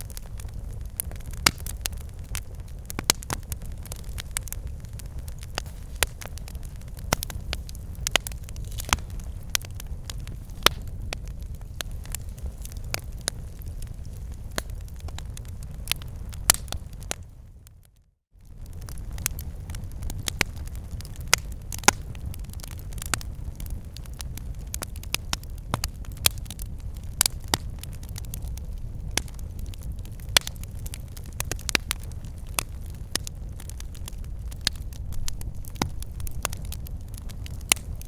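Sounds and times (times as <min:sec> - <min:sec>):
campfire crackles and pops: 0:00.0 - 0:38.0
low rumble of flames: 0:00.0 - 0:38.0.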